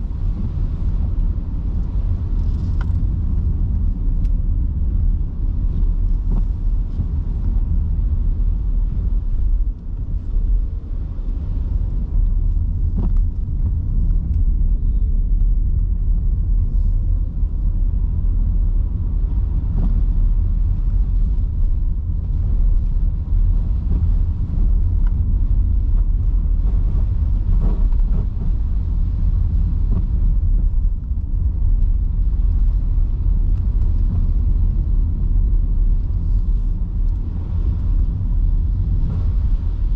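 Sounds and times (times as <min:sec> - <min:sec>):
tyre and road rumble: 0:00.0 - 0:39.9.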